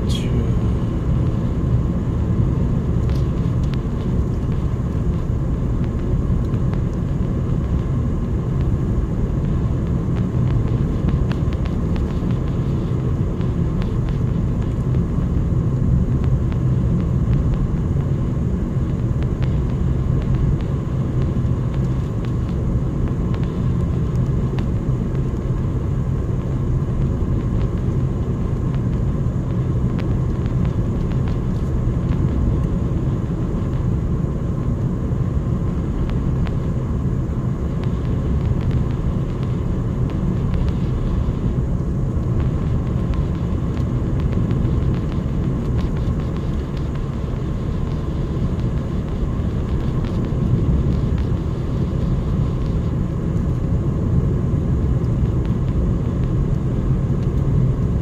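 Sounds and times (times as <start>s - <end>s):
engine and tyre rumble inside car: 0.0s - 58.0s.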